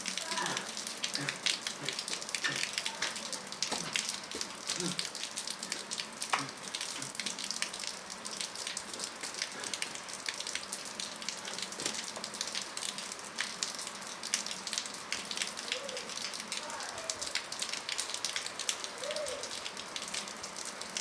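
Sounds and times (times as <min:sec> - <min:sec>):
rain falling steadily: 0:00.0 - 0:21.0.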